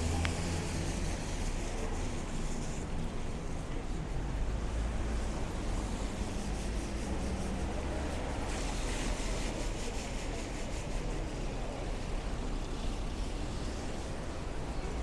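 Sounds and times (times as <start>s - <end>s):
low traffic rumble: 0.0s - 15.0s
tyres hissing on wet road: 0.0s - 15.0s.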